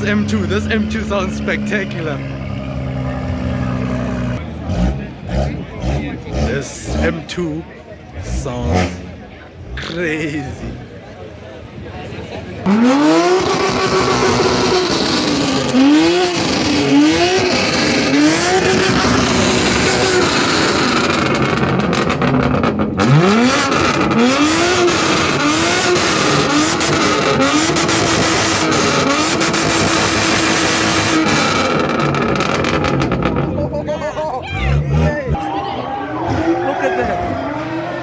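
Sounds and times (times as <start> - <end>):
car engine revving: 0.0 - 11.2, 12.6 - 38.0.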